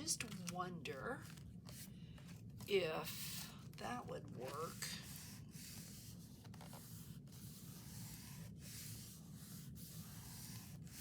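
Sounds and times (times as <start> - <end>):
low steady hum: 0.0 - 11.0
paper and card rustling: 0.0 - 11.0.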